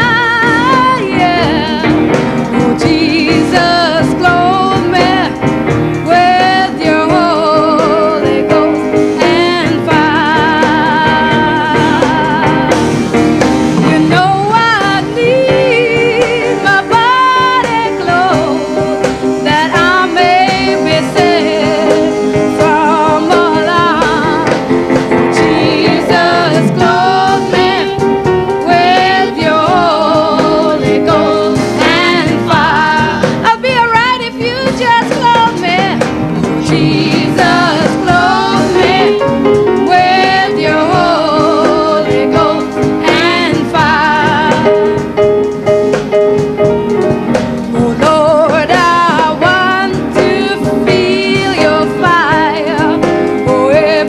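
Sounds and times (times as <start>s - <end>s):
gospel vocal group singing: 0.0s - 46.3s, 47.1s - 54.0s
instrumental backing: 0.0s - 54.0s.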